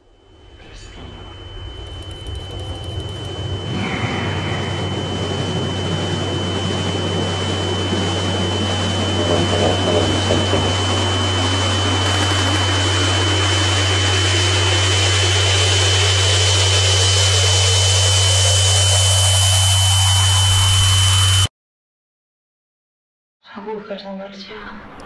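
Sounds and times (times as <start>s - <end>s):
low hum: 0.0s - 21.5s
thin high whine: 0.0s - 21.5s.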